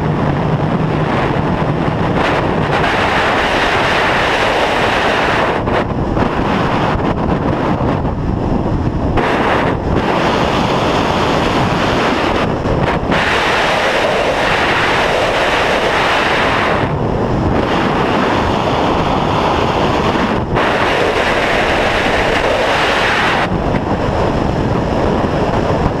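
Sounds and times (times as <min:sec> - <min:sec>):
wind noise on microphone: 0:00.0 - 0:26.0.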